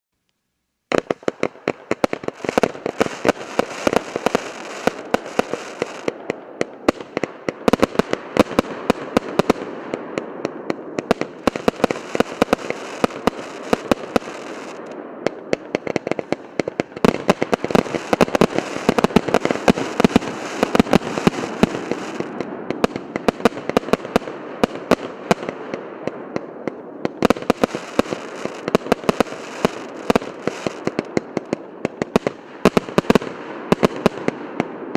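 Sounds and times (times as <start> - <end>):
firework crackle: 0.9 - 34.9
firework shots and bangs: 0.9 - 34.9.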